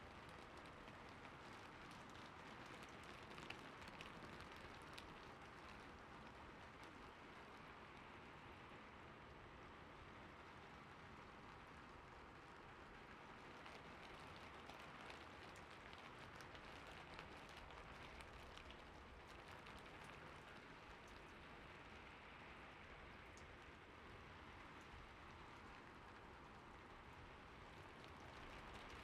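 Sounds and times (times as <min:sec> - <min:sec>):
soft rain hiss: 0:00.0 - 0:29.0.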